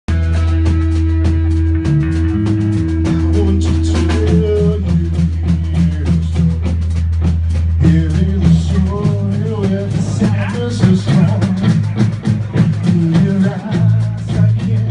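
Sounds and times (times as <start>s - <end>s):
guitars and bass: 0.0s - 14.9s
drum kit fast beat: 0.1s - 14.9s.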